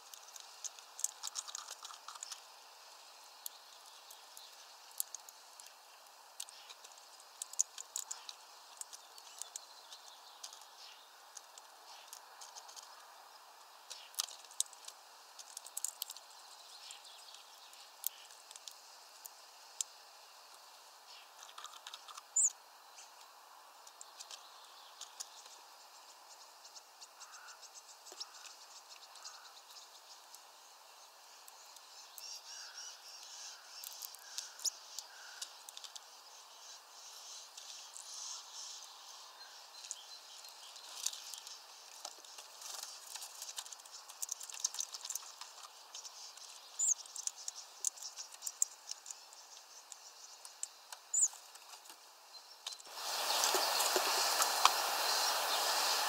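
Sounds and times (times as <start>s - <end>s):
bird ticks and clicks: 0.0s - 55.6s
faint background birdsong: 0.0s - 56.0s.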